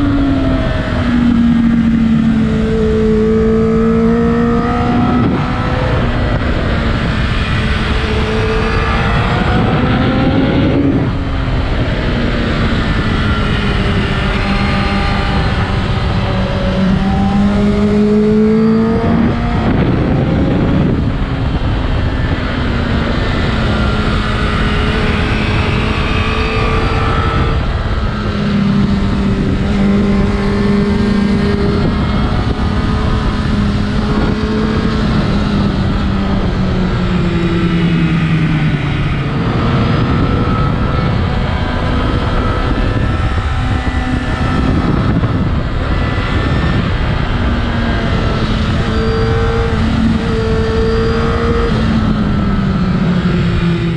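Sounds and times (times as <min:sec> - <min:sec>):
motorcycle engine running hard: 0:00.0 - 0:53.9
wind rushing over microphone: 0:00.0 - 0:53.9.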